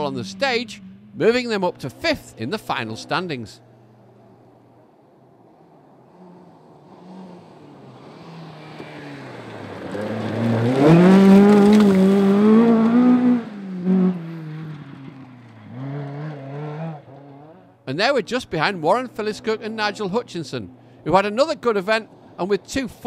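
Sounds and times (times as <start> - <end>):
rally car engine at full throttle: 0.0 - 22.8.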